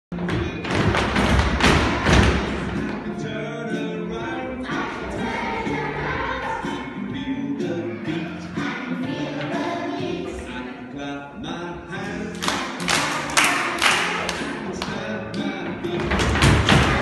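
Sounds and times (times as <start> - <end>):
background music: 0.1 - 17.0
children singing: 0.6 - 17.0.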